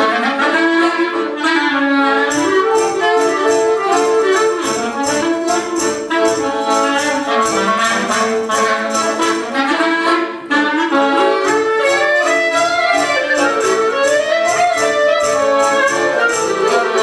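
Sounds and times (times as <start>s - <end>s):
clarinet melody: 0.0s - 17.0s
piano accordion: 0.0s - 17.0s.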